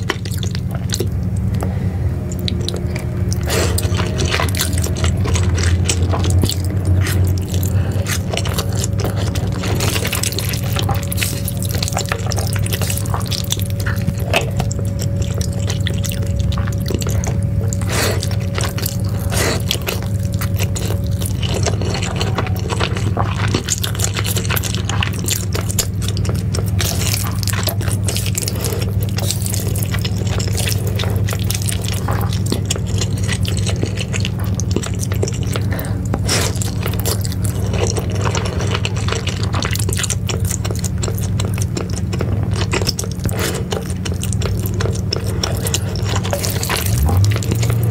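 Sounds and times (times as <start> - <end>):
slurping and chewing noodles: 0.0 - 47.9.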